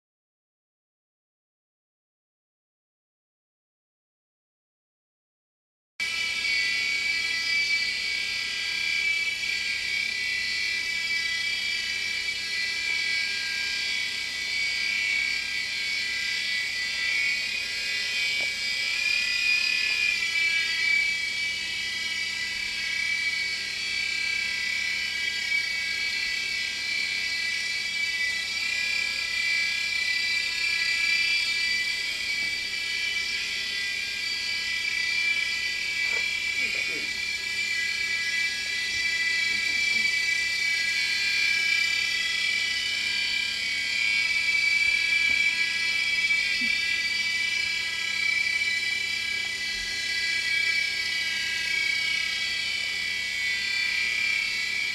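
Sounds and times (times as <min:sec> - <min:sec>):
toy helicopter rotor whining: 0:06.0 - 0:54.9.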